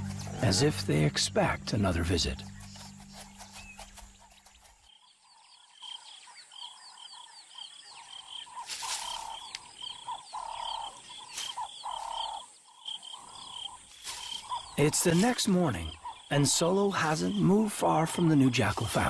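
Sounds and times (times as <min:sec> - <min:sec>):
lower bird calls: 0:02.2 - 0:18.3.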